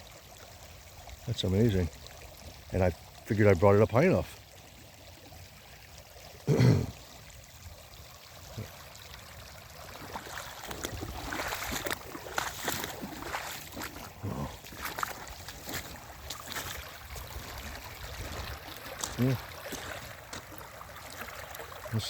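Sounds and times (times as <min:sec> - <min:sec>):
floodwater running and splashing: 0:00.0 - 0:22.0.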